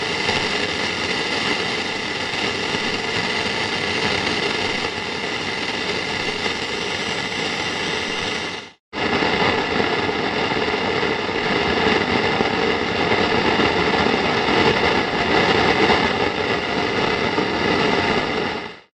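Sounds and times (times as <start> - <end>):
radio static hiss: 0.0 - 18.9.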